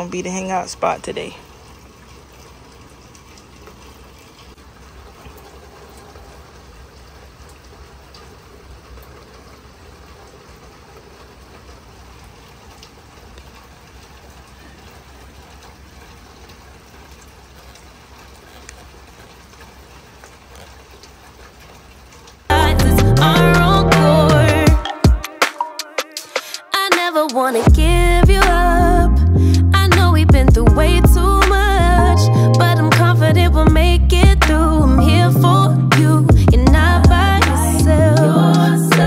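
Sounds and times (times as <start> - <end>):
steady rain hiss: 0.0 - 39.0.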